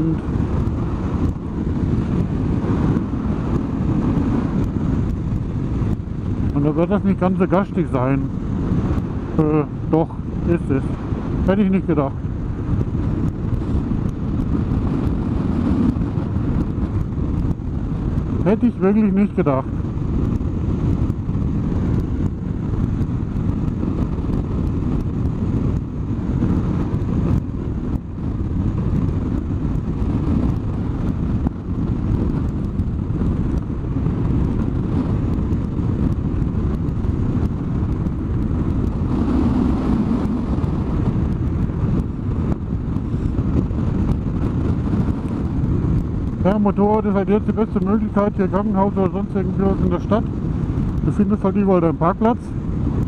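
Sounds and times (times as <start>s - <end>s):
motorcycle engine running: 0.0s - 53.0s
wind and road noise: 0.0s - 53.0s.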